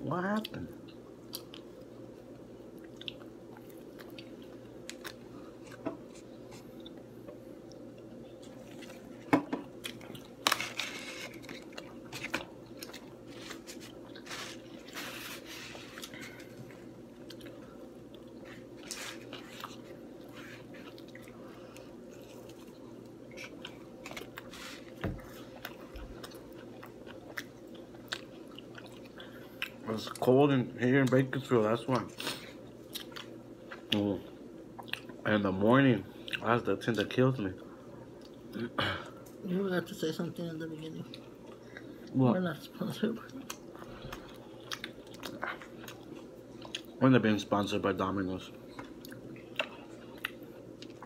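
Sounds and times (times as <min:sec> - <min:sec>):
steady low hum: 0:00.0 - 0:51.0
people chewing pizza: 0:00.2 - 0:51.0.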